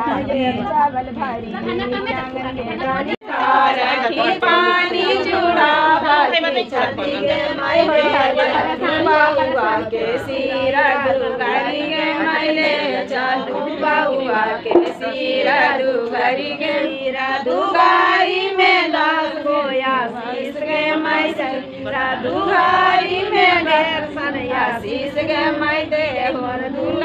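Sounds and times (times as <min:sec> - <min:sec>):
group of women singing: 0:00.0 - 0:27.0.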